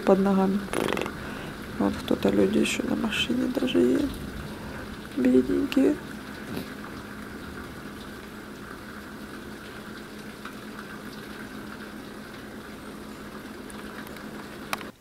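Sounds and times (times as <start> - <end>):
heavy rain pouring: 0.0 - 15.0
steady low hum: 0.0 - 15.0.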